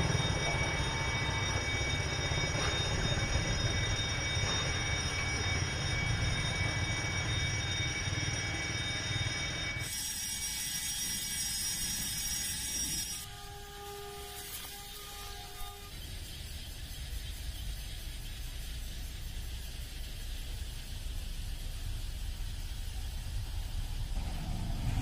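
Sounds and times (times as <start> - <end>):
train rumbling: 0.0 - 9.9, 11.1 - 25.0
steady high tones: 0.0 - 25.0.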